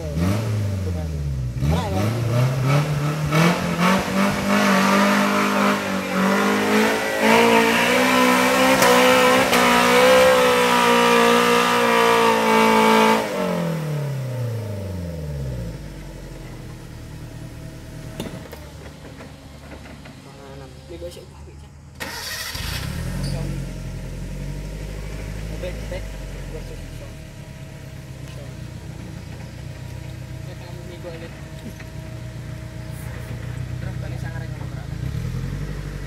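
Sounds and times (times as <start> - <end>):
off-road engine revving: 0.0 - 18.8, 22.0 - 36.0.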